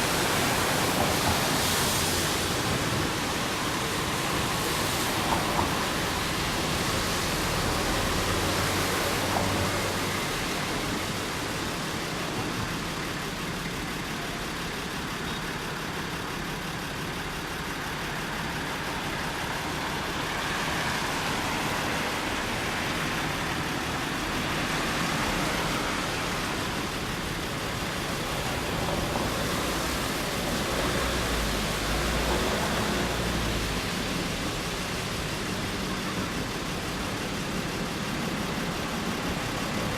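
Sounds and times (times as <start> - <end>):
electric train running: 0.0 - 39.9.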